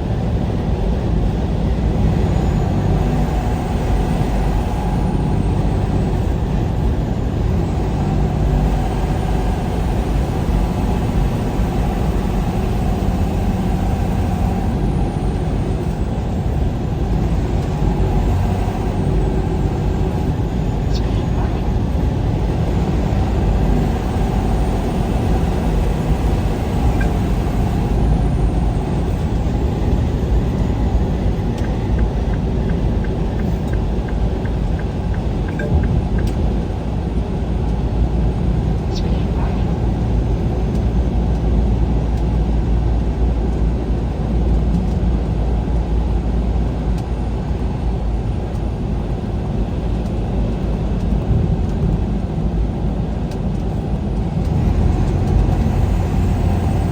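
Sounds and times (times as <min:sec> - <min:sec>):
vehicle interior road noise: 0:00.0 - 0:56.9.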